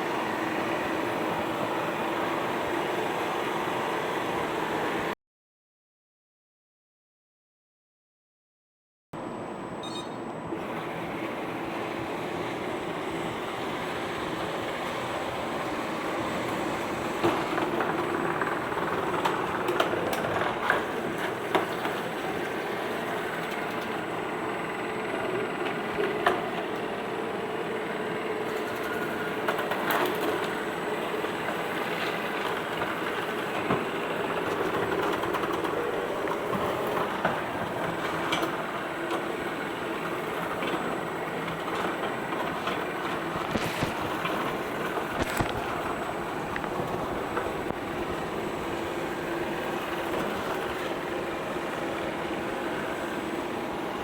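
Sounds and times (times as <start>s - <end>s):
robot vacuum cleaner whirring: 10.6s - 54.0s.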